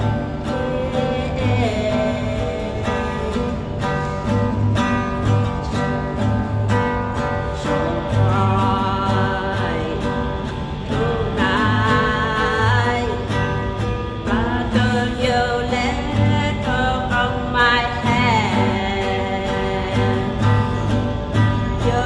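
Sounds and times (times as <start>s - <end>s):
person singing: 0.0s - 22.0s
plucked guitar: 0.0s - 22.0s.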